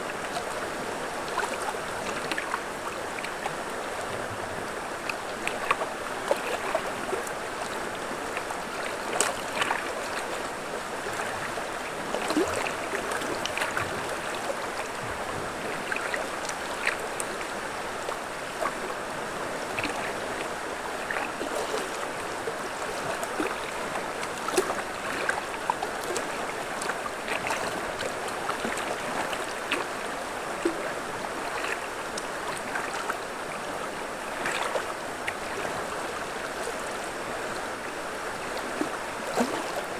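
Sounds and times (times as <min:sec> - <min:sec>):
river water running over stones: 0:00.0 - 0:39.9.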